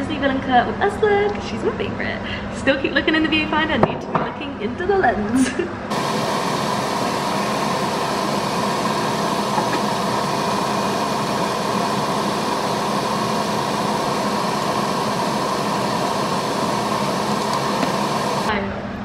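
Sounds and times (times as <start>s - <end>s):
fan whirring: 0.0s - 19.0s.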